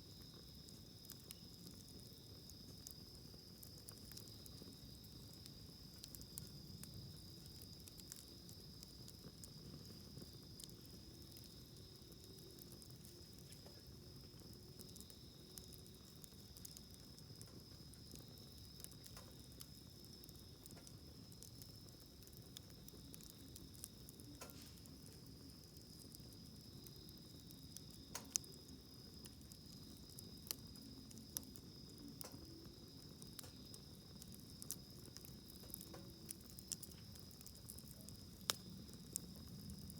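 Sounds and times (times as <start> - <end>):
campfire crackling: 0.0 - 39.9
fire popping: 0.0 - 39.9
insect trill: 0.0 - 39.9.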